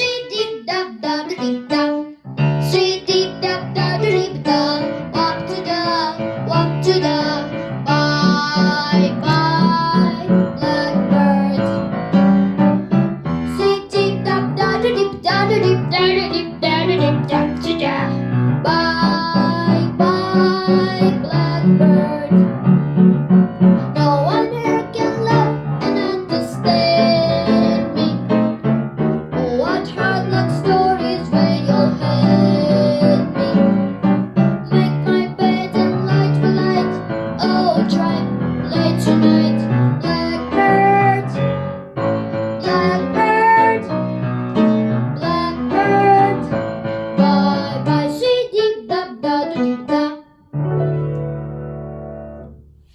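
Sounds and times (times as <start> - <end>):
piano and guitar accompaniment: 0.0 - 52.9.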